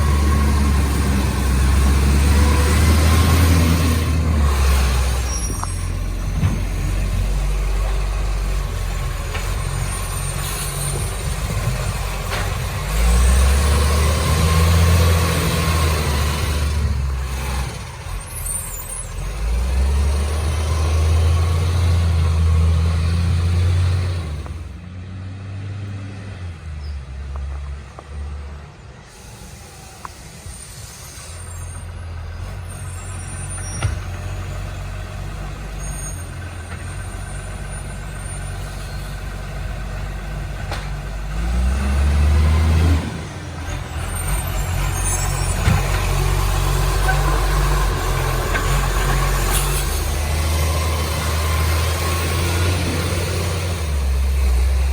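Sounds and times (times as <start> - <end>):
diesel truck engine revving: 0.0 - 54.9.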